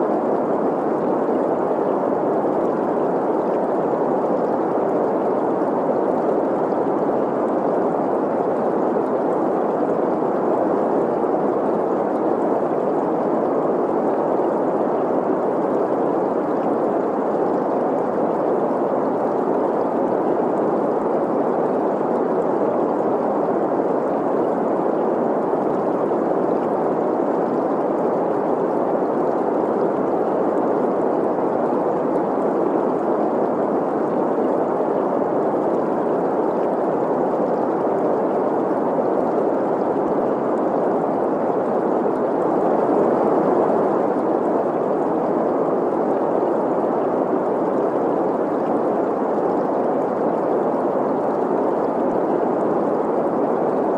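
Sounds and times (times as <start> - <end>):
stream gurgling: 0.0 - 53.9.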